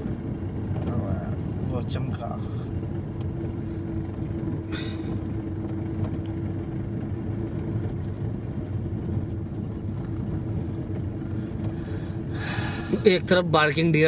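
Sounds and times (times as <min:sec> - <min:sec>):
car engine and tyres rumbling: 0:00.0 - 0:14.0
steady hum: 0:00.0 - 0:14.0.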